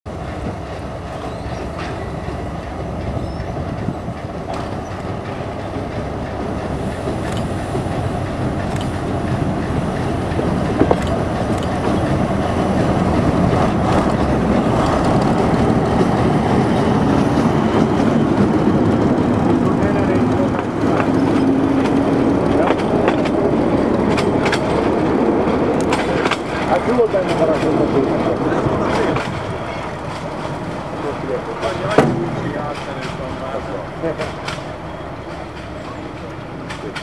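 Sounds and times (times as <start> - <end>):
diesel locomotive engine: 0.1 - 37.0
wheels clicking on track: 0.1 - 37.0.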